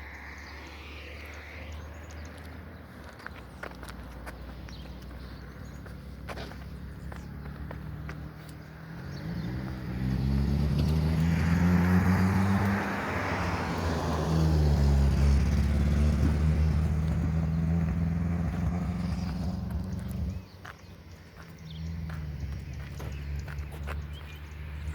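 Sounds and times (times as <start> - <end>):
vehicle engine running: 2.2 - 24.9.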